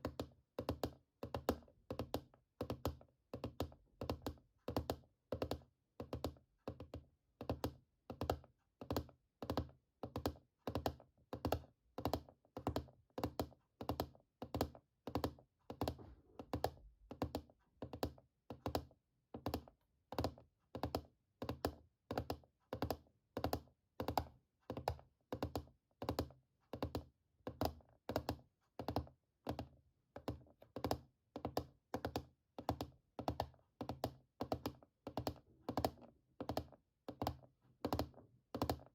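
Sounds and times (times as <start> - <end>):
fingers tapping on keys: 0.0 - 38.9.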